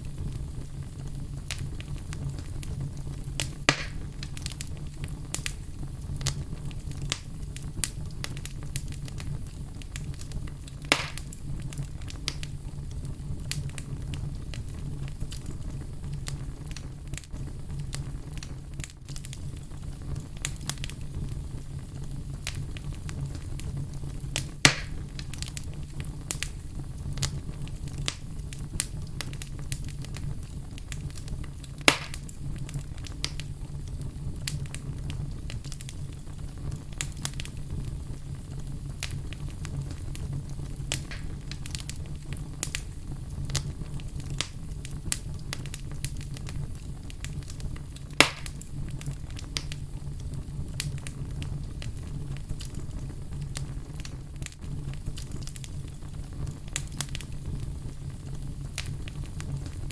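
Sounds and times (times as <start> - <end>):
fire crackling: 0.0 - 59.9
fire popping: 0.0 - 59.9.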